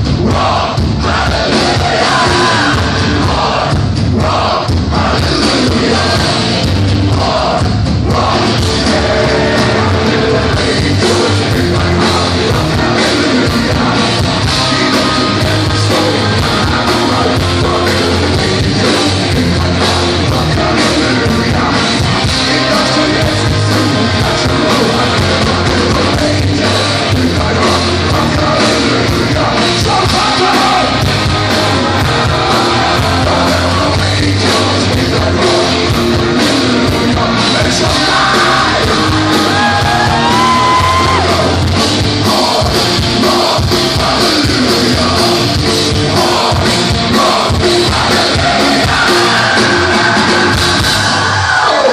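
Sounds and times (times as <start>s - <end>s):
heavy metal band playing live: 0.0s - 51.9s
person singing and yelling: 0.2s - 51.9s.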